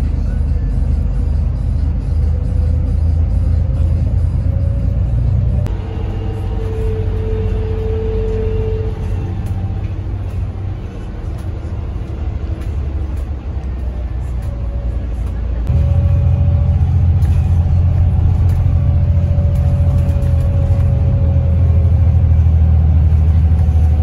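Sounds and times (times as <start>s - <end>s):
coach engine and tyres rumbling: 0.0s - 24.0s.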